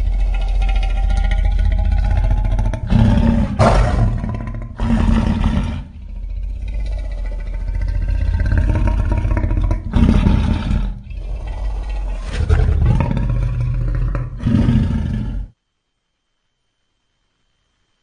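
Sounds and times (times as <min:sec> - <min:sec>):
low creature roars: 0:00.0 - 0:15.5.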